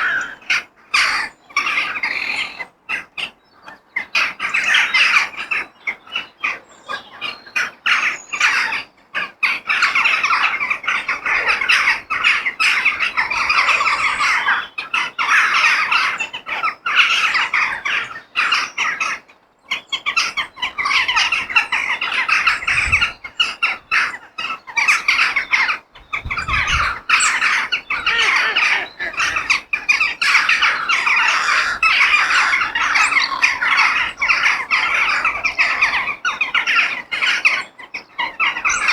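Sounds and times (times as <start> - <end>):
crows cawing: 0.0 - 3.2, 7.6 - 19.2, 20.1 - 37.6.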